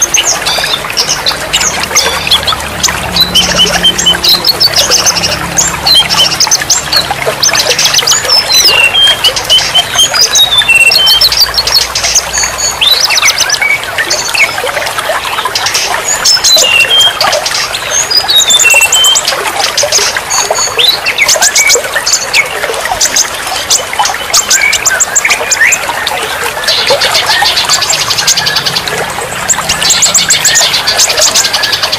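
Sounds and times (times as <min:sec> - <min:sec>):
songbirds singing: 0:00.0 - 0:31.9
trickle of running water: 0:00.0 - 0:31.9.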